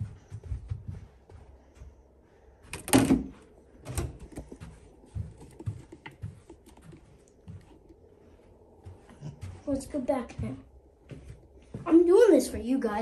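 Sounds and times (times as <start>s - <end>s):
footsteps: 0.0s - 12.8s.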